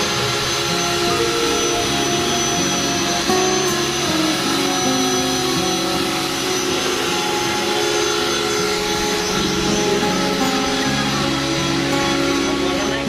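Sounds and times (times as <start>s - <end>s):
drywall sander whining: 0.0s - 13.0s
vacuum suction rush: 0.0s - 13.0s.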